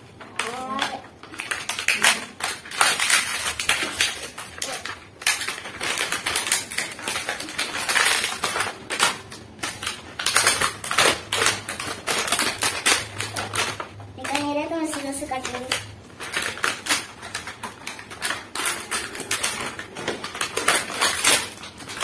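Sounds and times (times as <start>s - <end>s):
plastic packaging crackling: 0.0s - 22.0s.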